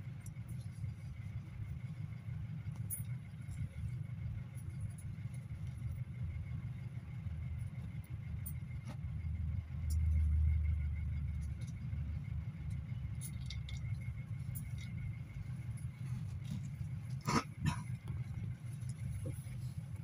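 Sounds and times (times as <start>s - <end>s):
minibus engine idling: 0.0s - 20.0s.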